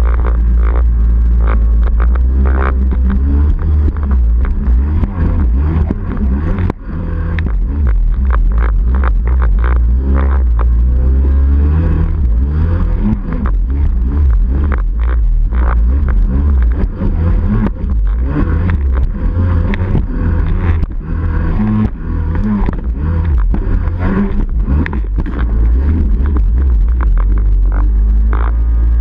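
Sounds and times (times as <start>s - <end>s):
two-stroke watercraft engine revving: 0.0s - 29.0s.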